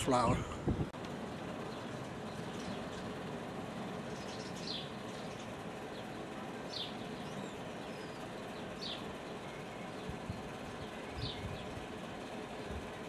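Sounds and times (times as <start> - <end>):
steady background noise: 0.0 - 13.0
bird chirping: 1.6 - 3.2, 4.0 - 12.8.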